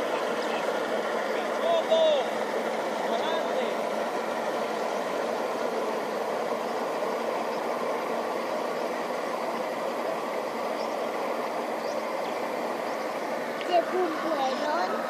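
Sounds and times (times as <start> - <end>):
boat outboard engines droning: 0.0 - 15.0.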